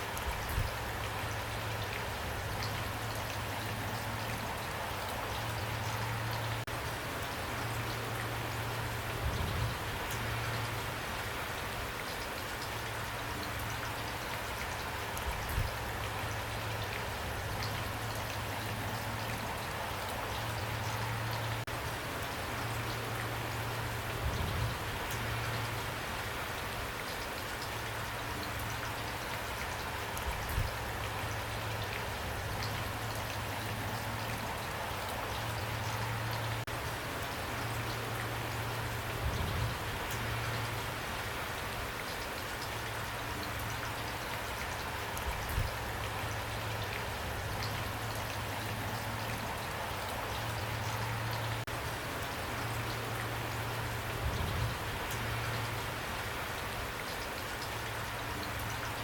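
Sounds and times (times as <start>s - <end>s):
rain pattering on a surface: 0.0s - 59.0s.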